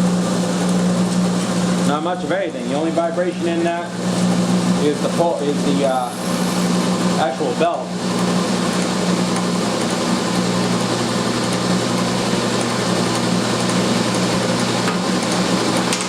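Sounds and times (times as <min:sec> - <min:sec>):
table saw motor humming: 0:03.0 - 0:16.0.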